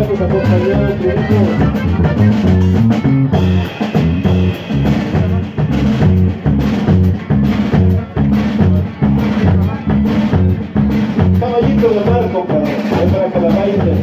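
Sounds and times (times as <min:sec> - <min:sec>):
live band playing dance tune: 0:00.0 - 0:14.0.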